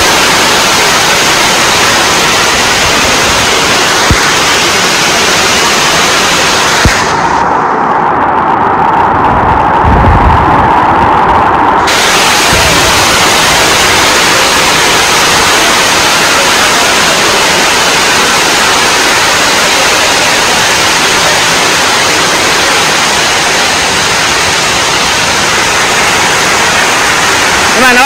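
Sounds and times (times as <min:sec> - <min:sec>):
heavy rain pouring on water: 0:00.0 - 0:28.0.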